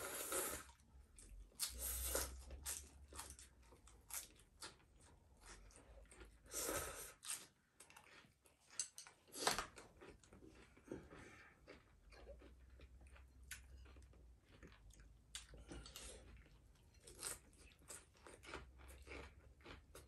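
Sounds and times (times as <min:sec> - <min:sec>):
chewing: 0:00.7 - 0:20.0.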